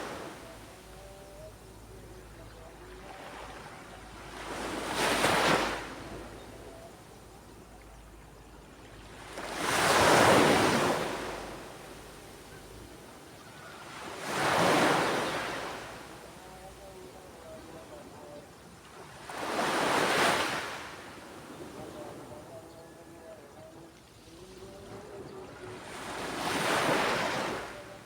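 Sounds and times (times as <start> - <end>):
waves crashing on beach: 0.0 - 7.3, 9.1 - 28.0
low wash of sea: 0.0 - 28.0.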